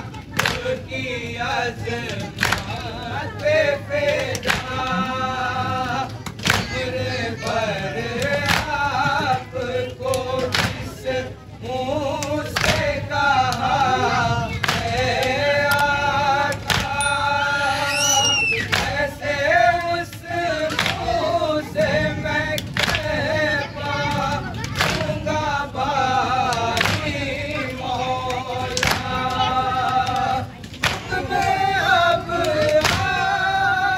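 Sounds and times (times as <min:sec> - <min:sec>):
lead reciter chanting: 0:00.0 - 0:33.9
men chanting together: 0:00.0 - 0:33.9.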